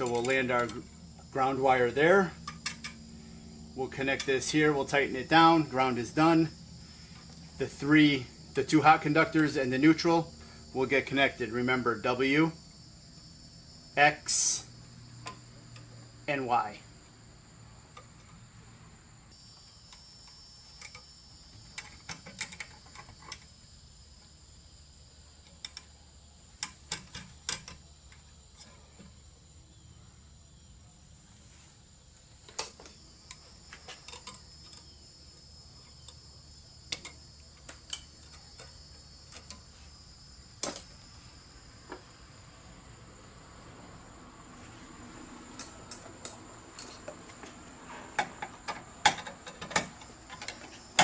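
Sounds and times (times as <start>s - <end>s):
insects chorus: 0.0s - 51.0s.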